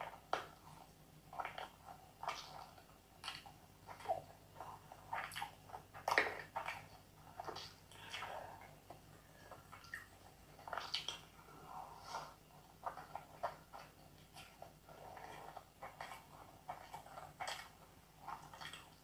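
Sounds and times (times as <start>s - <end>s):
chewing and mouth smacks: 0.0s - 11.4s, 12.6s - 19.0s.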